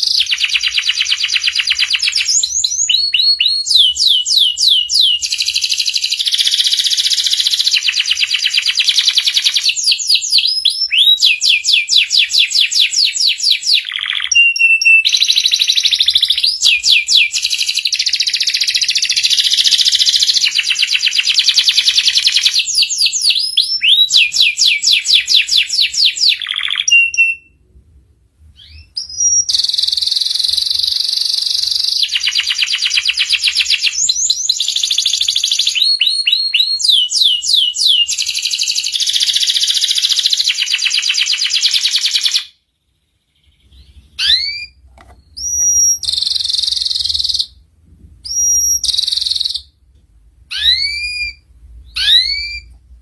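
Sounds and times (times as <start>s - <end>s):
canary singing trills: 0.0s - 27.6s, 28.6s - 47.6s, 48.3s - 49.8s, 50.5s - 52.8s.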